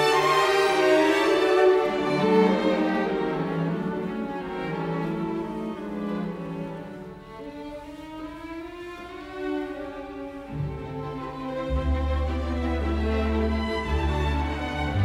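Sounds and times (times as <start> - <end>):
slow bowed string music: 0.0 - 15.0.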